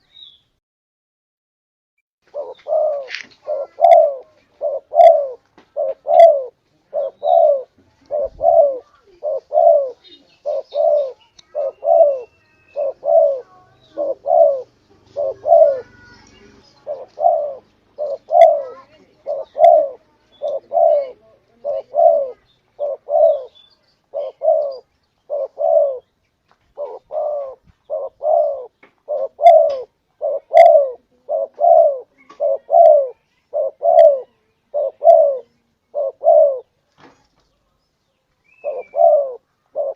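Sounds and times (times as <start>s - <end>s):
dove cooing: 2.3s - 26.1s, 26.8s - 36.7s, 38.5s - 39.9s.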